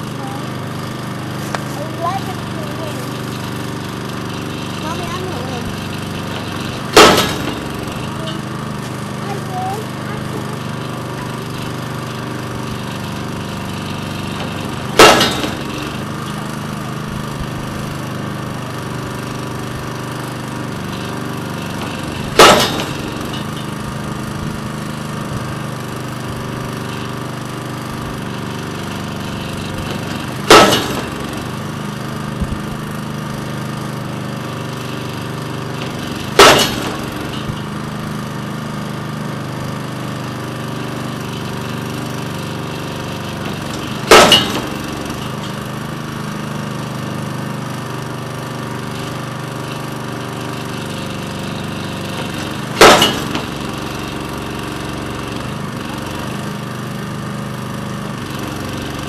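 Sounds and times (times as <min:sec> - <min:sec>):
engine running: 0:00.0 - 0:59.0
pile-driver hammer banging: 0:01.1 - 0:09.2, 0:10.2 - 0:27.2, 0:28.0 - 0:33.6, 0:34.6 - 0:38.2, 0:40.8 - 0:47.2, 0:48.9 - 0:56.5.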